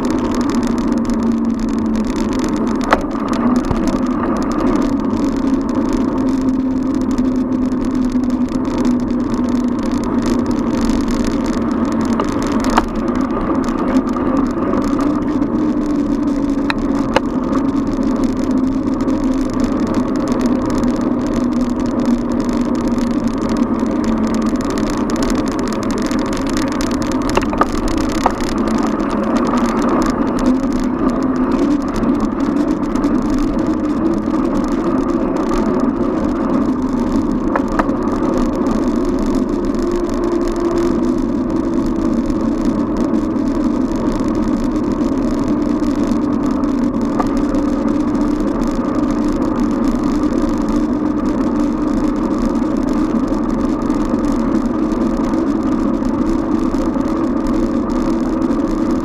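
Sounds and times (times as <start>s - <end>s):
bicycle tyres rumbling on road: 0.0s - 59.0s
motor traffic: 0.0s - 59.0s
wind: 0.0s - 59.0s.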